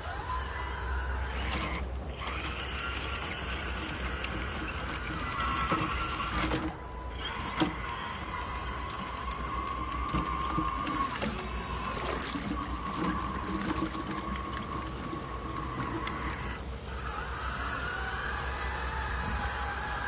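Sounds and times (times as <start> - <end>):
excavator running: 0.0 - 20.0.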